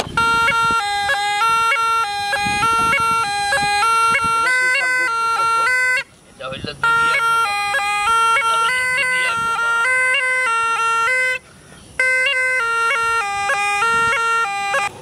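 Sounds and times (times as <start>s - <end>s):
reedy pungi melody: 0.0s - 15.0s.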